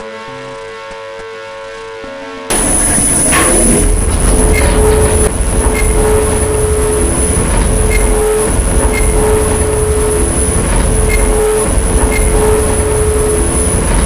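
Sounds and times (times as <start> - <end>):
washing machine spinning: 2.5 - 14.0.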